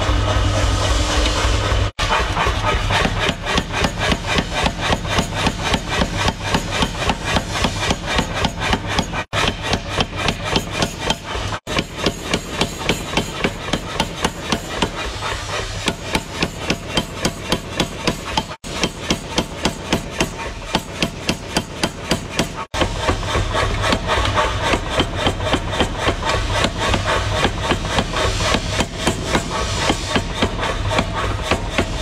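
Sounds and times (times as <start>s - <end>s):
power hammer pounding steel: 0.0s - 32.0s.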